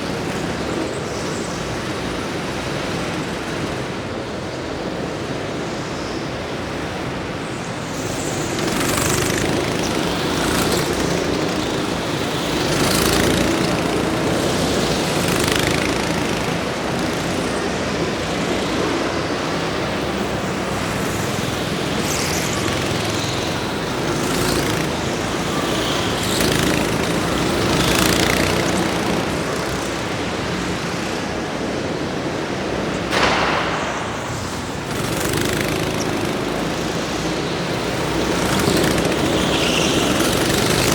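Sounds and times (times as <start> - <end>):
racing vehicles passing: 0.0 - 40.9.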